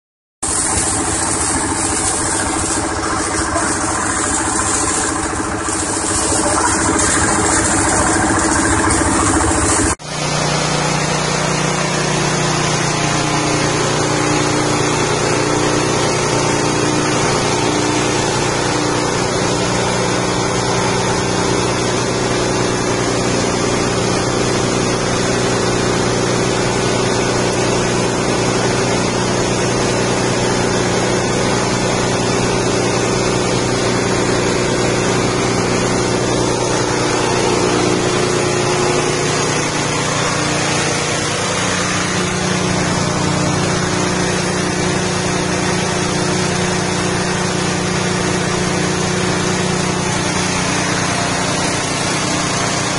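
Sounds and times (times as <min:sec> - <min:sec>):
small petrol engine running: 0:00.4 - 0:52.9.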